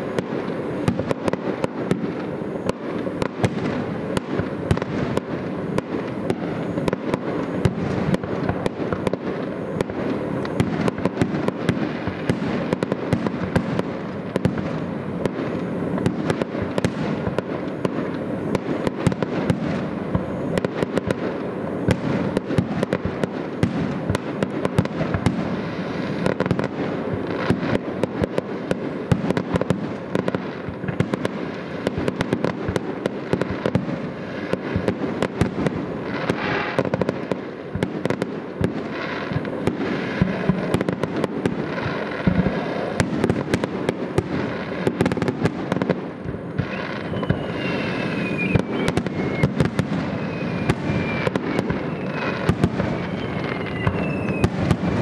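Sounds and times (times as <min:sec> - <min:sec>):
falling firework whistle: 0:00.0 - 0:55.0
fireworks bangs and crackles: 0:00.0 - 0:55.0.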